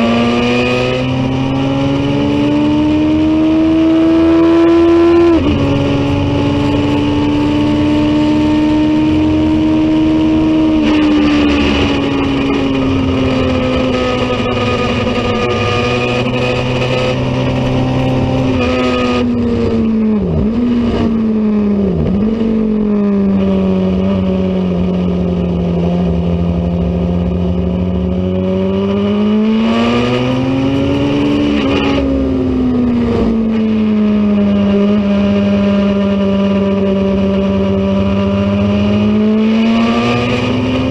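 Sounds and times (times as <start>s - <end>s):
racing motorcycle engine: 0.0s - 40.9s.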